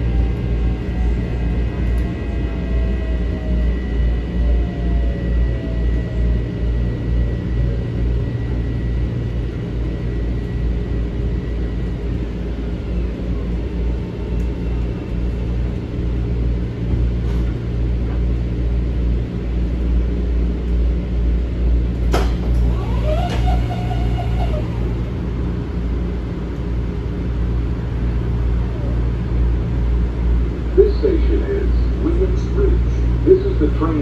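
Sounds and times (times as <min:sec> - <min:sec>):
electric train humming: 0:00.0 - 0:34.0.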